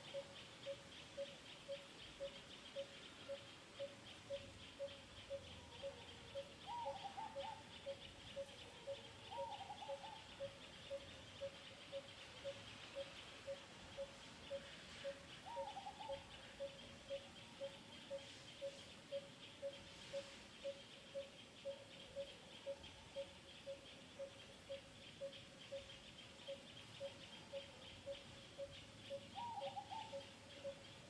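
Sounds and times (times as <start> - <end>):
low repeated bird pip: 0.0 - 31.0.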